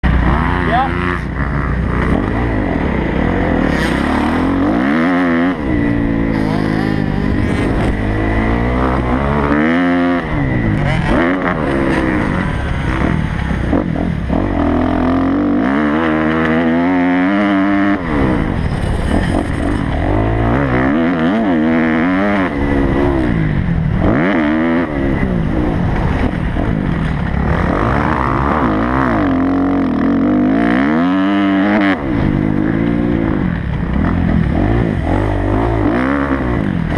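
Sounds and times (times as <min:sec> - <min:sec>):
motocross bike engine revving: 0:00.0 - 0:36.9.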